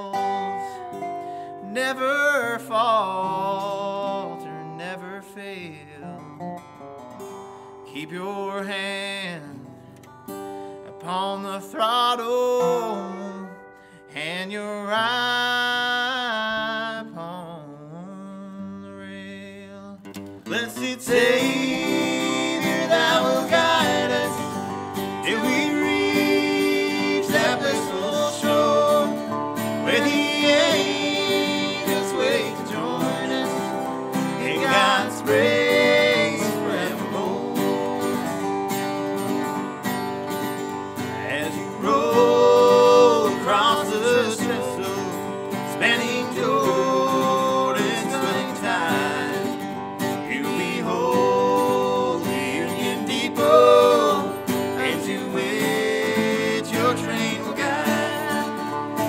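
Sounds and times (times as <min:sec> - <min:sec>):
resonator guitar sliding melody: 0:00.0 - 0:15.9, 0:20.0 - 0:59.0
acoustic guitar rhythm: 0:00.0 - 0:17.8, 0:18.9 - 0:59.0.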